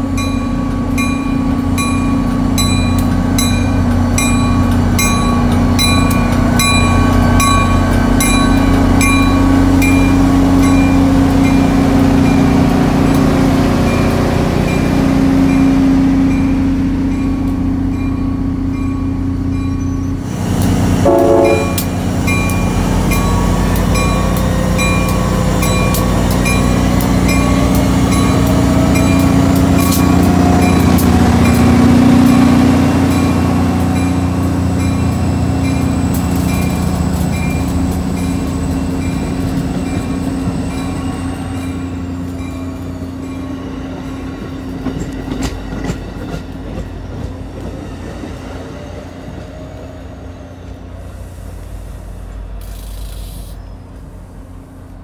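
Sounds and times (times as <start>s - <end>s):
diesel locomotive engine running: 0.0s - 55.0s
train wheels rolling on rails: 0.0s - 55.0s.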